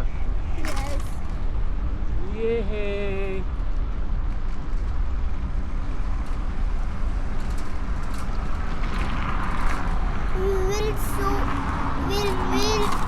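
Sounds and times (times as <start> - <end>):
road and traffic noise: 0.0 - 13.0
wind rumble on microphone: 0.0 - 13.0.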